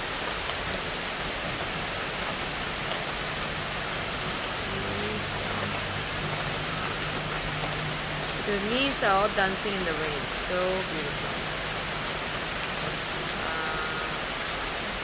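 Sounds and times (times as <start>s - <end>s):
heavy rain on leaves: 0.0s - 15.0s.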